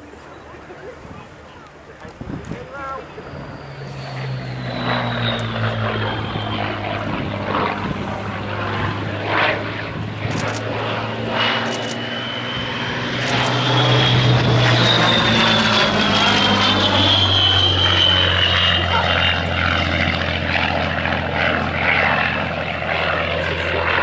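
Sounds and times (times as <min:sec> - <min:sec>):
aircraft engine running: 0:02.1 - 0:24.0.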